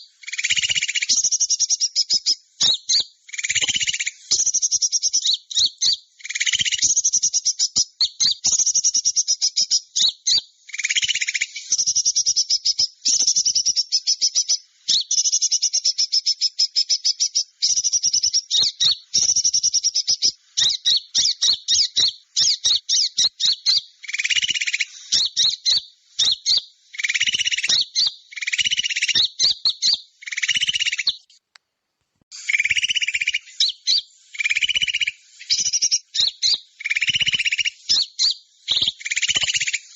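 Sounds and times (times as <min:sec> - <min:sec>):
small birds chirping trills: 0:00.0 - 0:31.4, 0:32.3 - 0:39.9.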